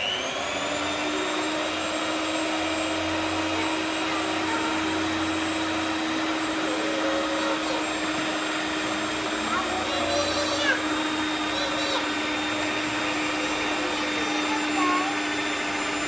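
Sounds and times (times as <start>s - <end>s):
electric hand mixer motor whine: 0.0s - 16.0s.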